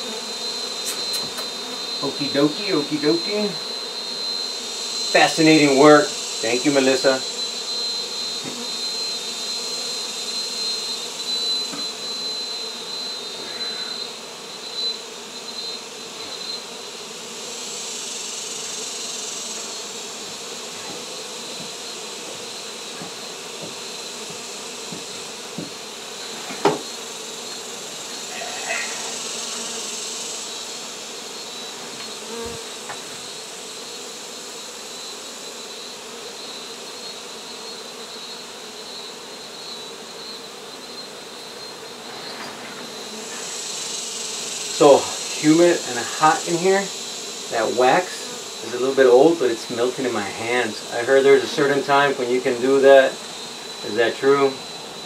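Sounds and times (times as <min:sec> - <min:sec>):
honey bees buzzing: 0:00.0 - 0:55.0.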